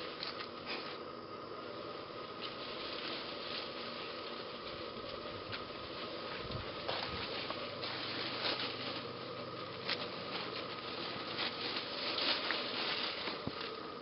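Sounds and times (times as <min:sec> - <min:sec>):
faint steady hum: 0:00.0 - 0:14.0
puppies rustling through leaves: 0:02.4 - 0:13.8.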